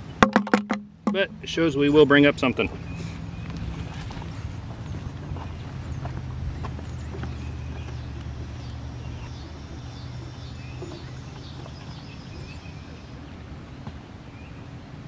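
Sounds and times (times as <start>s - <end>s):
birds calling: 0.9s - 14.7s.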